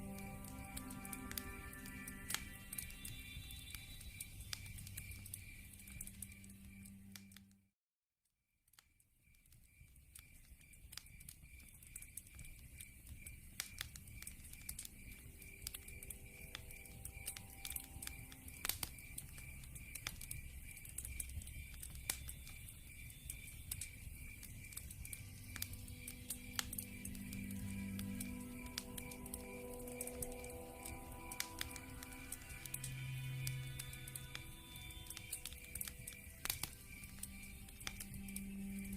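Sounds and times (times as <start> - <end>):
insect trill: 0.0 - 7.4, 8.9 - 38.9
wood fire crackling: 0.0 - 7.4, 8.8 - 38.9.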